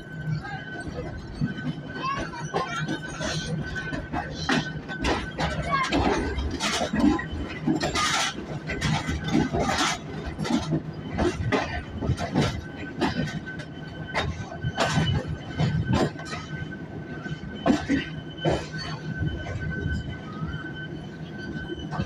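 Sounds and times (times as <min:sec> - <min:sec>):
train low rumble: 0:00.0 - 0:22.0
train wheels clanking over rail joints: 0:00.1 - 0:22.0.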